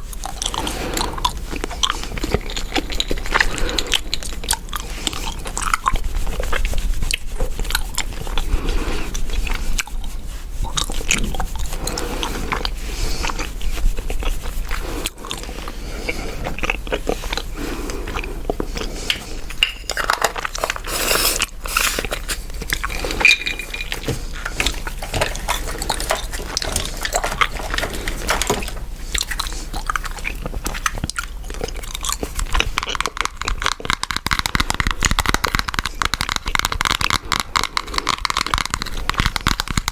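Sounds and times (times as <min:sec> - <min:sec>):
gum chewing clicks: 0:00.0 - 0:39.9.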